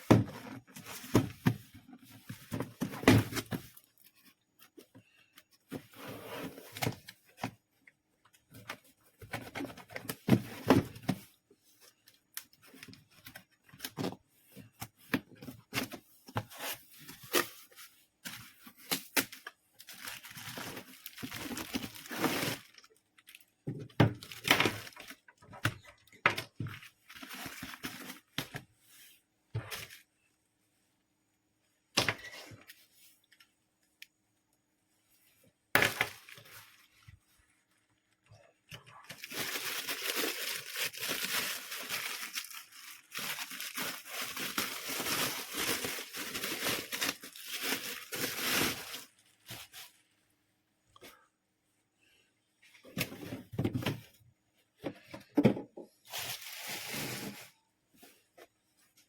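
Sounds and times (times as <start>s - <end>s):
rustling and crinkling: 0.0s - 31.1s, 35.0s - 50.2s, 52.6s - 59.0s.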